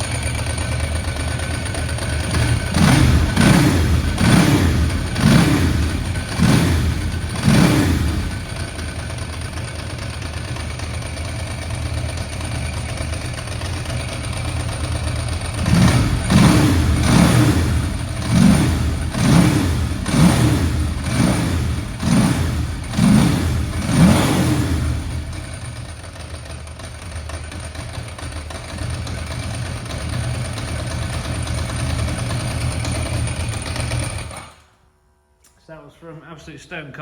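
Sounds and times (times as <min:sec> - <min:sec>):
motorcycle engine idling and revving: 0:00.0 - 0:34.8.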